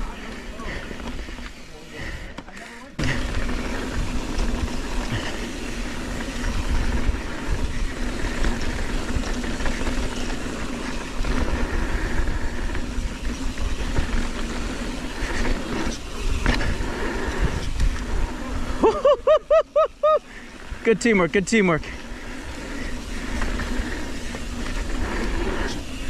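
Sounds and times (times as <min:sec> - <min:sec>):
bike tyres rolling on dirt: 0:00.0 - 0:26.0
bike rattling over rocks: 0:00.3 - 0:18.9, 0:20.4 - 0:26.0.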